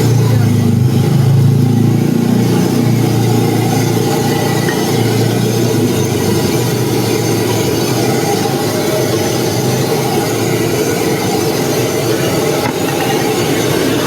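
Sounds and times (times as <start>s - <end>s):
gas burner roaring: 0.0s - 14.0s.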